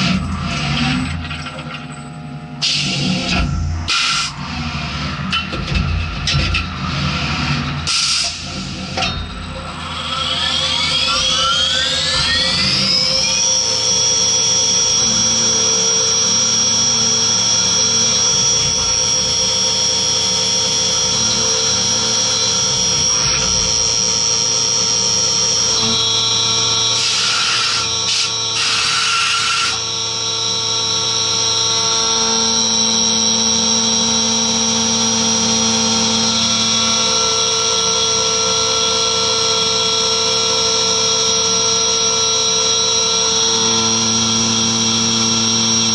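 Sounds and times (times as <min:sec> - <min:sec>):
mill spindle high whine: 0:00.0 - 0:45.9.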